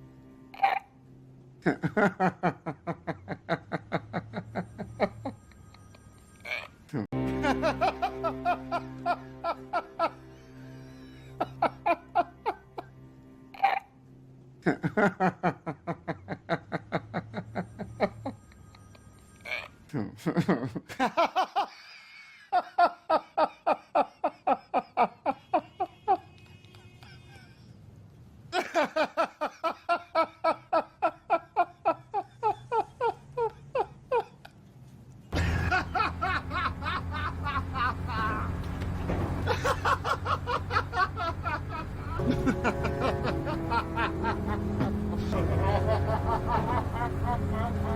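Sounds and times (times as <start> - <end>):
person laughing: 1.6 - 5.4, 6.5 - 12.9, 14.6 - 18.4, 19.5 - 27.7, 28.6 - 34.6, 35.4 - 38.6, 39.4 - 47.9.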